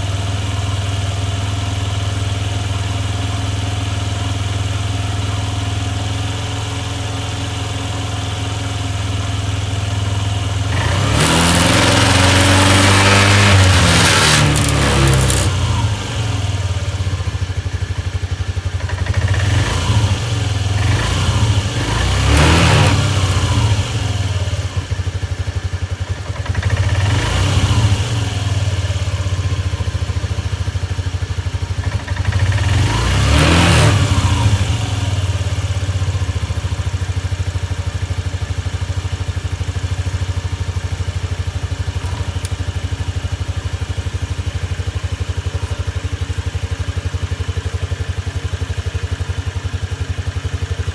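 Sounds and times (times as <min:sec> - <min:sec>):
moped engine revving and idling: 0:00.0 - 0:50.9.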